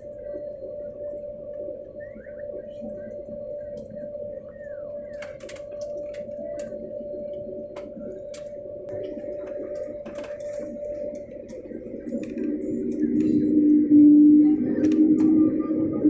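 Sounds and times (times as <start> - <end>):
airliner engine drone: 0.0 - 16.0.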